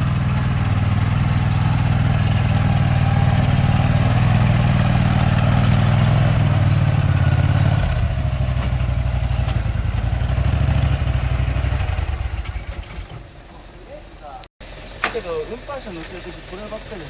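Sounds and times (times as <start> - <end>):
machine engine running: 0.0 - 13.3, 14.6 - 17.0.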